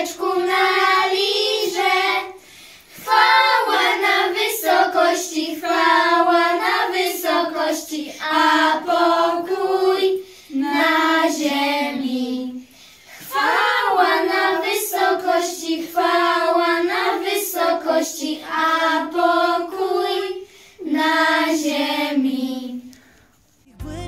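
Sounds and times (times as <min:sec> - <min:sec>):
children singing together: 0:00.0 - 0:22.9.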